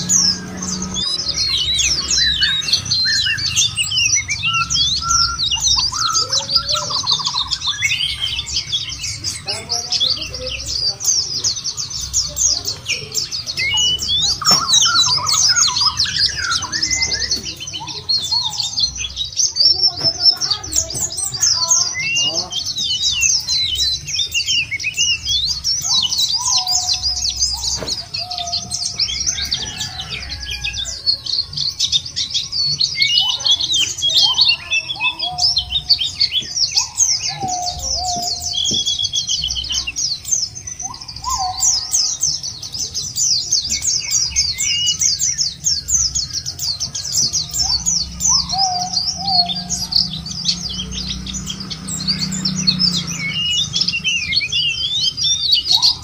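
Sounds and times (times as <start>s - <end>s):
rapid high bird chirps: 0.0s - 56.0s.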